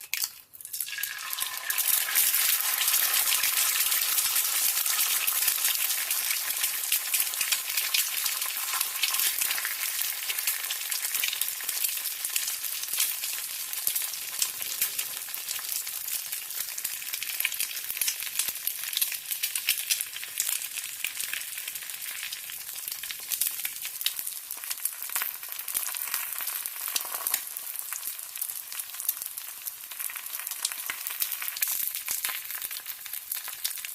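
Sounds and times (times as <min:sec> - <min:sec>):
egg sizzling in hot oil: 0:00.0 - 0:33.9.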